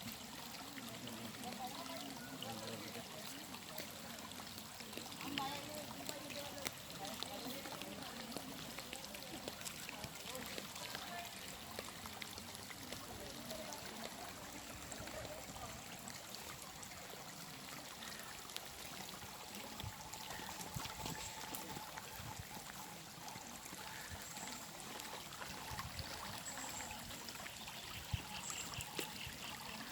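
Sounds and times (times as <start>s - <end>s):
water trickling and babbling: 0.0s - 29.9s.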